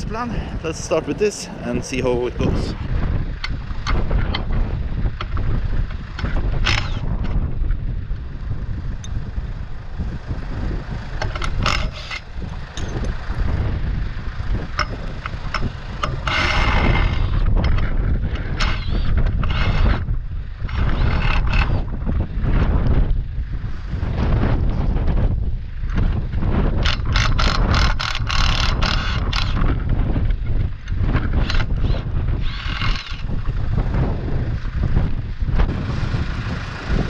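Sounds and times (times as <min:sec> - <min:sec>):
steady low rumble: 0:00.0 - 0:37.0.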